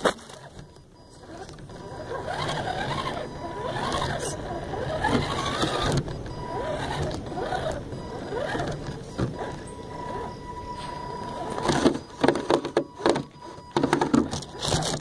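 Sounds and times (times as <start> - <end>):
rc car motor whine: 0.4 - 15.0.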